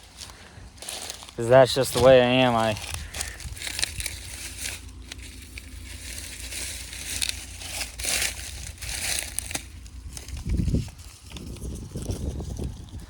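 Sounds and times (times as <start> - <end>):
dry corn stalks crunching: 0.0 - 13.0
low steady rumble: 0.0 - 13.0.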